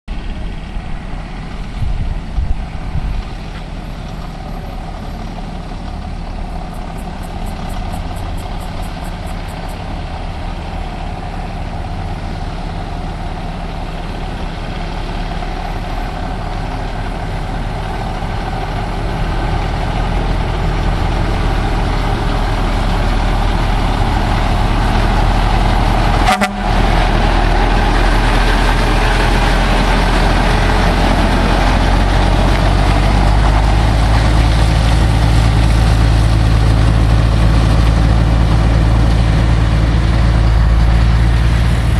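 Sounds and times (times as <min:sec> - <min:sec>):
truck diesel engine pulling away: 0:00.1 - 0:41.9.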